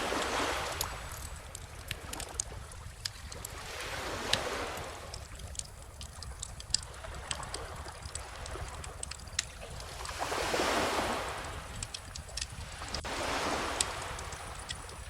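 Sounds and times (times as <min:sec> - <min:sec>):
small ocean waves washing ashore: 0:00.0 - 0:15.0
wood bonfire crackling and popping: 0:00.0 - 0:15.0.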